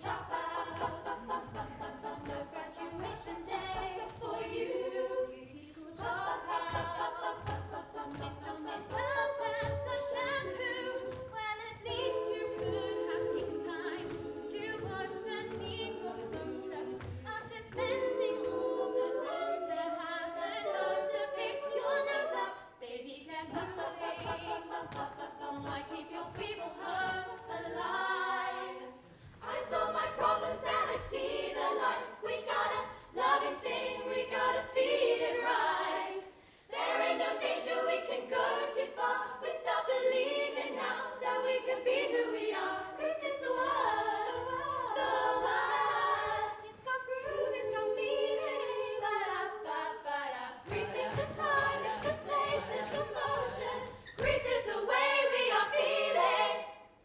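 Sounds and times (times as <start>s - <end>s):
female a cappella group singing: 0.0s - 57.0s.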